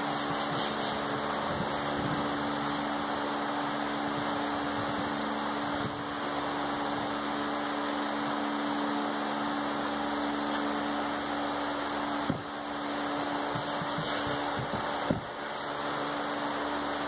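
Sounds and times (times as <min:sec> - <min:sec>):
constant low hum: 0:00.0 - 0:17.0
fan-like whir: 0:00.0 - 0:17.0.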